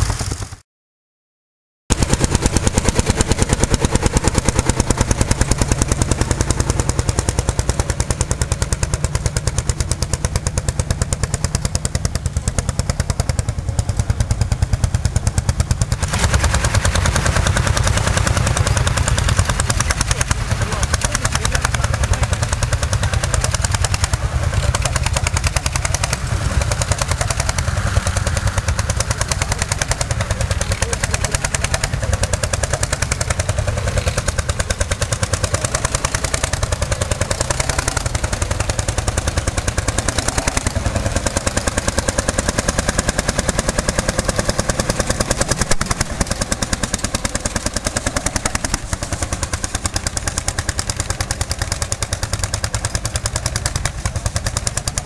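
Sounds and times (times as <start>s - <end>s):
tractor engine chugging: 0.0s - 0.6s, 1.9s - 55.0s.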